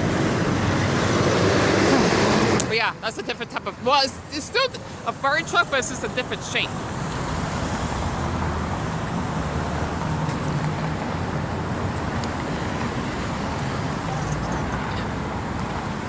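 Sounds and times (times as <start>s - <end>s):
road traffic noise: 0.0s - 16.0s
vehicle engine rumbling: 0.0s - 16.0s.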